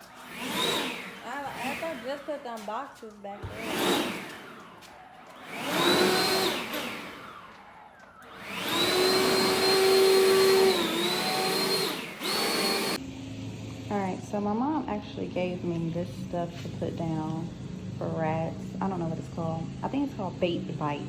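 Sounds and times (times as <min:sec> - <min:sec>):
vacuum cleaner running: 0:00.0 - 0:13.0, 0:14.0 - 0:21.0.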